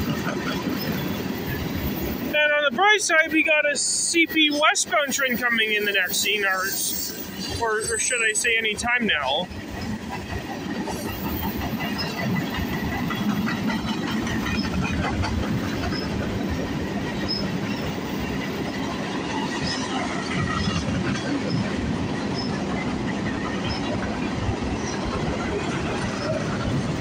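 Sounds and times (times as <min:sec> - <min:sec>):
wheels clacking over rail joints: 0:00.0 - 0:08.1, 0:08.7 - 0:27.0
train wheels rumbling on rails: 0:00.0 - 0:27.0.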